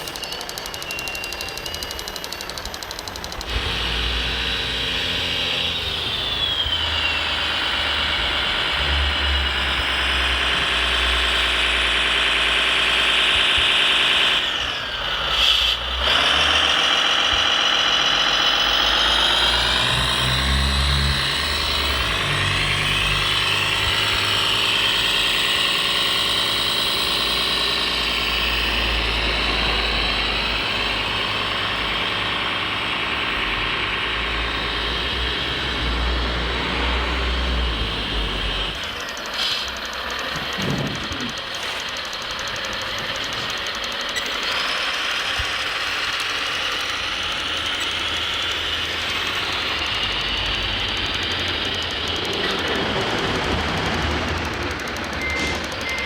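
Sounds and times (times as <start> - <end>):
hydraulic pump whine: 0.0 - 56.0.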